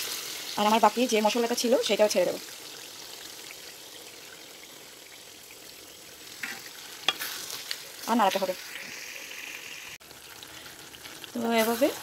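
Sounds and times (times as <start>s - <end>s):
sauce sizzling in a wok: 0.0s - 12.0s.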